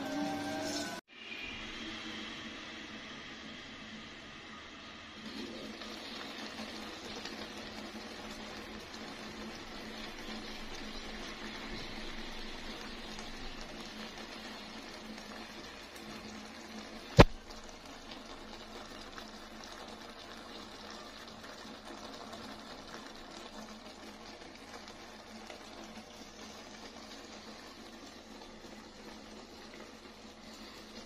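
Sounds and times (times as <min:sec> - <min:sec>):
pot simmering: 0:00.0 - 0:31.0.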